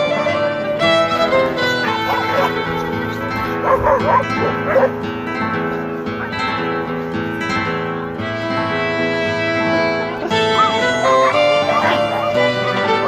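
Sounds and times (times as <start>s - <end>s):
fiddle and guitar music: 0.0s - 13.0s
dogs barking: 1.0s - 8.8s, 10.0s - 13.0s.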